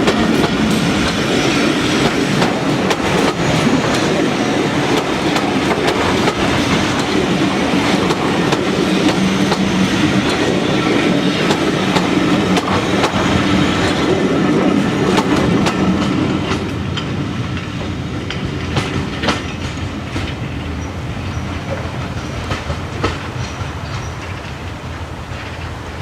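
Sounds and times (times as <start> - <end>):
diesel train engine noise: 0.0 - 26.0
wheels clicking over rail joints: 0.0 - 26.0.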